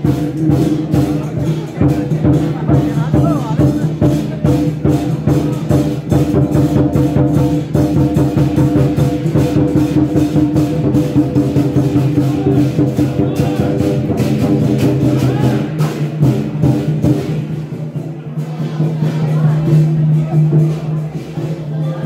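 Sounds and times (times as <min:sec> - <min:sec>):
rapid drum and percussion beats: 0:00.0 - 0:22.0.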